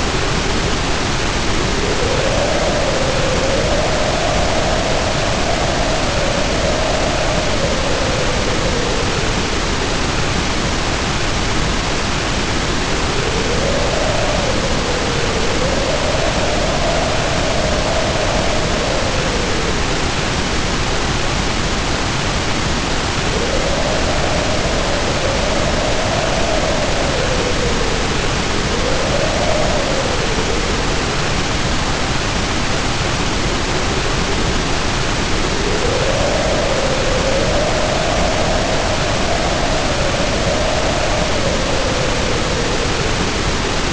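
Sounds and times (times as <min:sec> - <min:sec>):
heavy rain pouring: 0:00.0 - 0:43.9
wind howling in gusts: 0:00.0 - 0:43.9.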